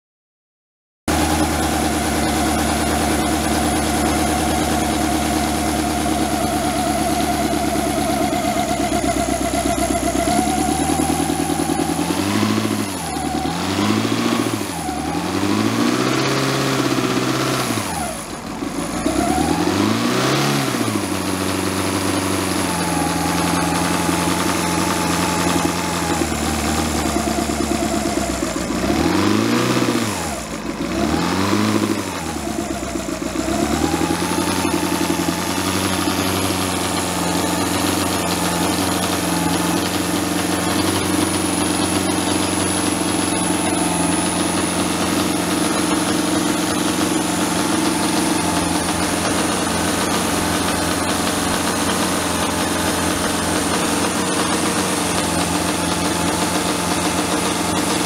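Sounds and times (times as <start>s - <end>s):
model petrol engine revving: 1.1s - 58.0s.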